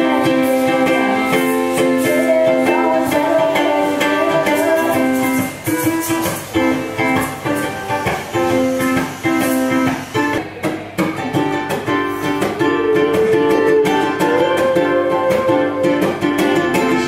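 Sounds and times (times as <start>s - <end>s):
ukulele strumming: 0.0s - 17.0s.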